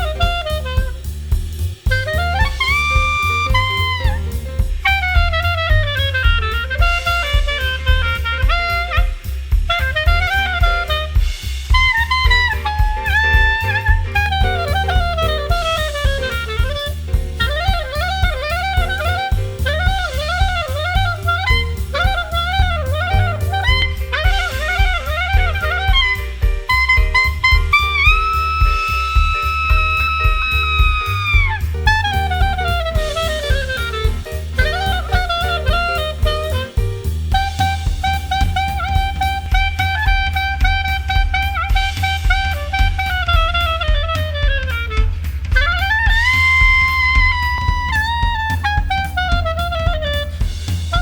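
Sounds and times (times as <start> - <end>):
bass: 0.0 - 51.0
drum kit: 0.0 - 51.0
horn playing melody: 0.0 - 51.0.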